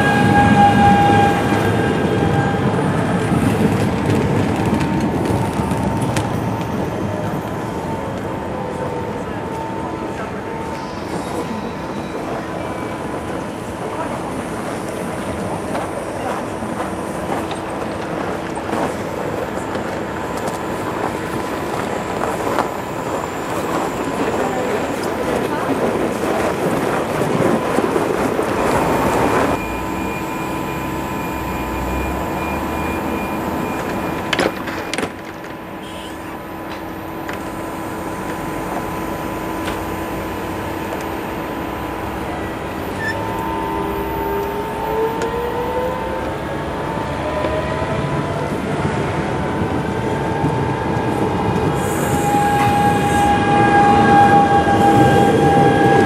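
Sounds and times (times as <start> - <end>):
train humming: 0.0 - 56.0.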